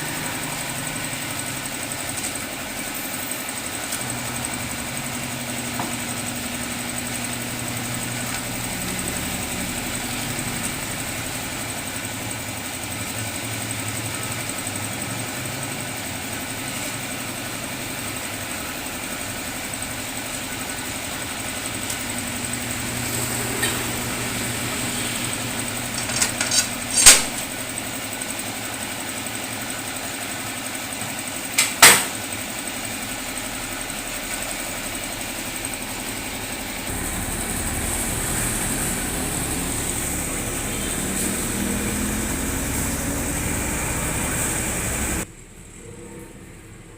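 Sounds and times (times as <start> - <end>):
engine humming: 0.0 - 16.7, 18.2 - 28.5, 32.7 - 46.9.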